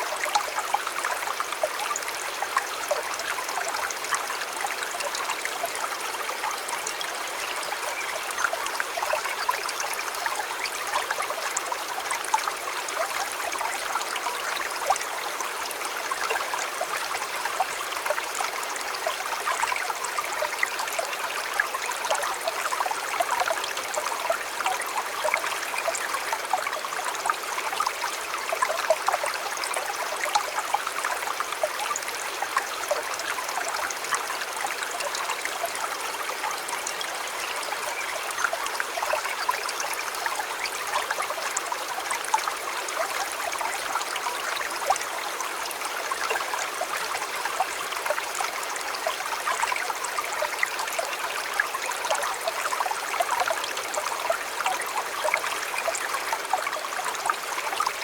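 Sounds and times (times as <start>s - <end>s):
shallow river flowing over stones: 0.0s - 58.0s.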